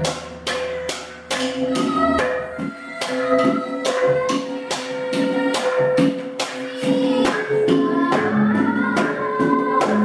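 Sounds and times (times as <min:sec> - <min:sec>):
gamelan ensemble playing: 0:00.0 - 0:10.0.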